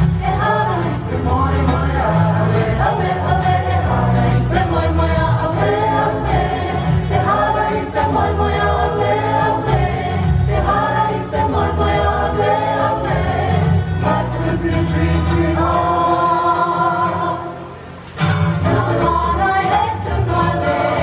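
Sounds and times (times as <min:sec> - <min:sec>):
choir singing in harmony: 0:00.0 - 0:21.0
instrumental backing with bass: 0:00.0 - 0:21.0.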